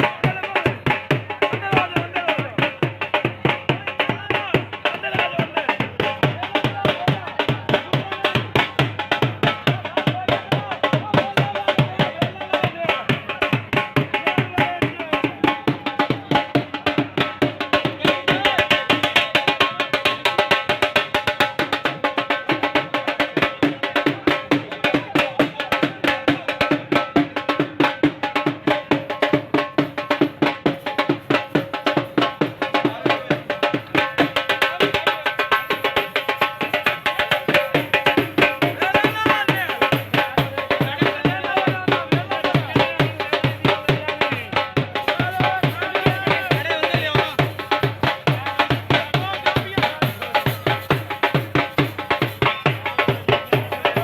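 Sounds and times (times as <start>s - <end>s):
fast steady drumming: 0.0s - 54.0s.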